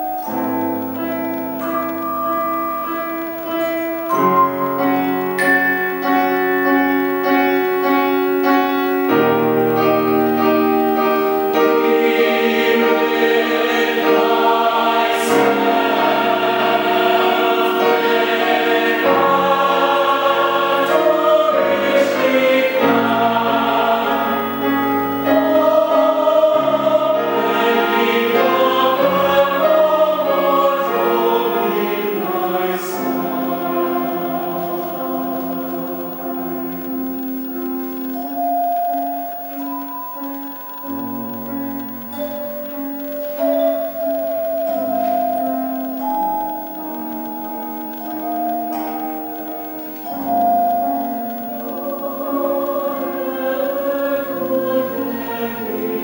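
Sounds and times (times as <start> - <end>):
choir singing sacred music: 0.0 - 56.0.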